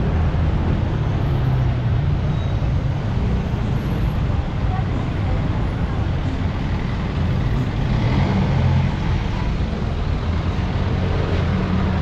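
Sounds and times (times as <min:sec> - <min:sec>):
street traffic passing: 0:00.0 - 0:12.0.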